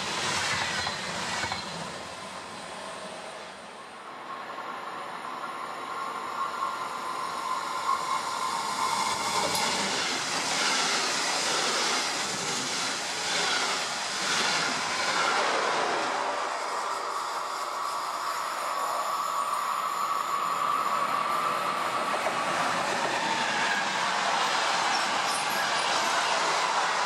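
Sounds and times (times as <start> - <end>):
train wheels rumbling on rails: 0.0 - 3.4, 6.2 - 27.0.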